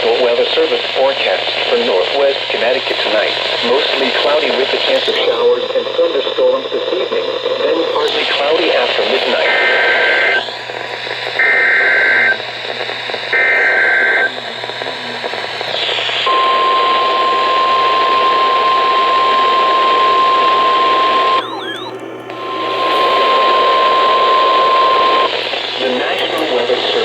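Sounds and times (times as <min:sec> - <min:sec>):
radio static hiss: 0:00.0 - 0:27.0
steady attention tone: 0:05.3 - 0:27.0.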